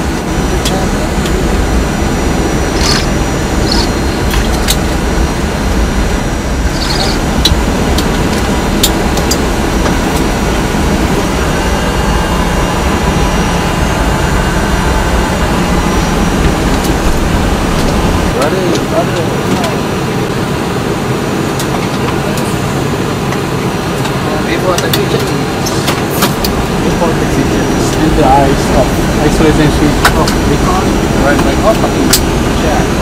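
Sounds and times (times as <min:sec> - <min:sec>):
cockpit rumble: 0:00.0 - 0:33.0.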